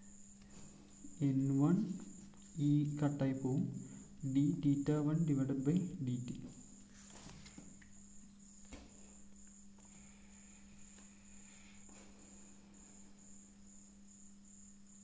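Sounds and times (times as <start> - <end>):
cricket chirping: 0.0 - 15.0
low steady hum: 0.0 - 15.0.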